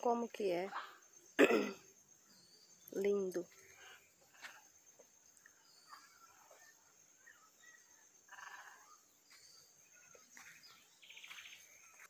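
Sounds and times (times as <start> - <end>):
faint bird calls: 0.7 - 12.0.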